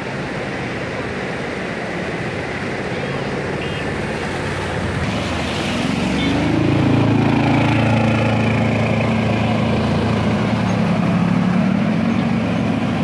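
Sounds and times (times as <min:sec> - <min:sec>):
motorcycle engines: 0:00.0 - 0:13.0.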